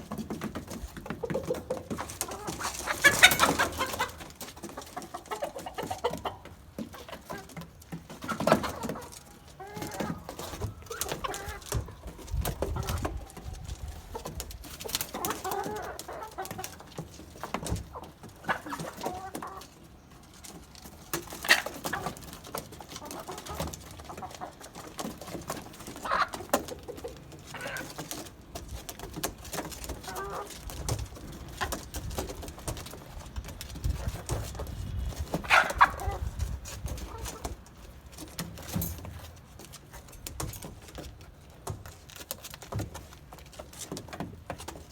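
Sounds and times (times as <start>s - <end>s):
hens clucking: 0.0s - 44.9s.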